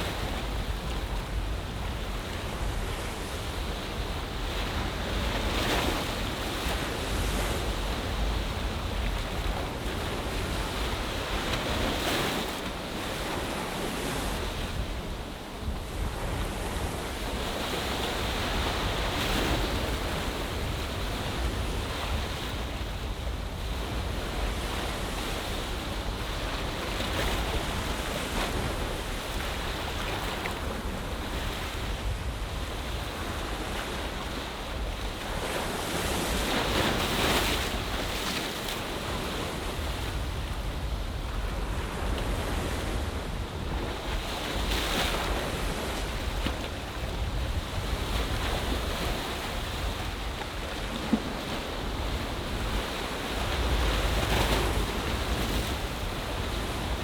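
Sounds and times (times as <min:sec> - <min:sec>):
ocean surf washing: 0:00.0 - 0:57.0
wind on microphone: 0:00.0 - 0:57.0.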